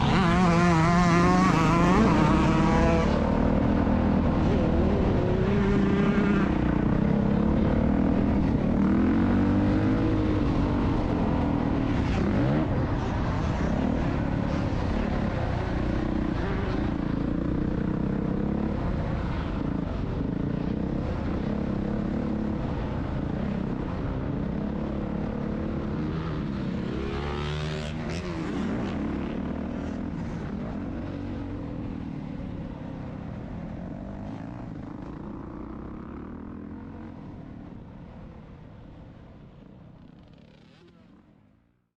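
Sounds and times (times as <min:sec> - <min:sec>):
dirt bike engines running: 0:00.0 - 0:41.6.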